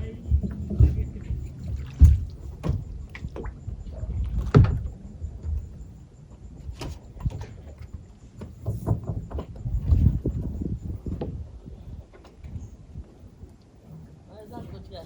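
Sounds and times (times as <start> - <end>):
hollow knocks of boats: 0.0 - 15.0
low uneven rumble: 0.0 - 15.0.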